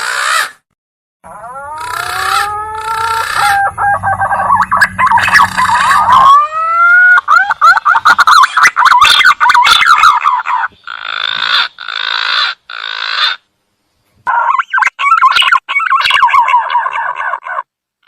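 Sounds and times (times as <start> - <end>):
pigeon hoarse croaking: 1.2 - 13.5, 14.3 - 17.7.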